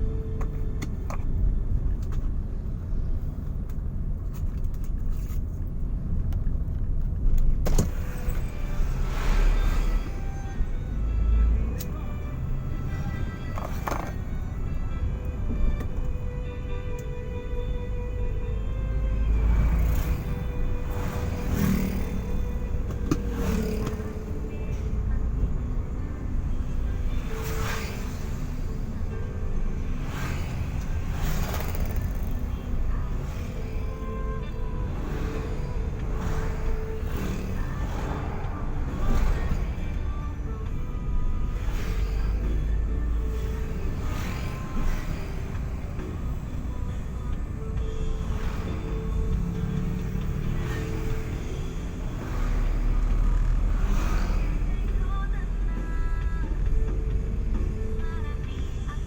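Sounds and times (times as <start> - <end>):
vehicle driving low rumble: 0.0 - 59.0.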